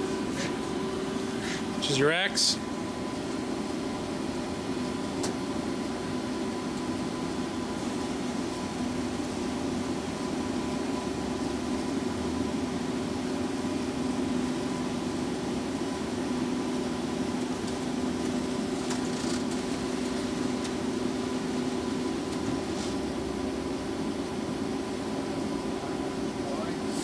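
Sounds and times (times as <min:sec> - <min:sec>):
boring mill humming: 0:00.0 - 0:27.0.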